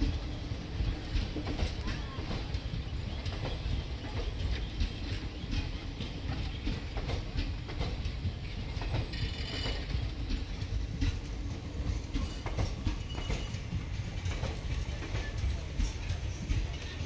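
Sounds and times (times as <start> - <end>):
train coaches rumbling: 0.0 - 17.0
wheels clacking over rail joints: 0.0 - 17.0.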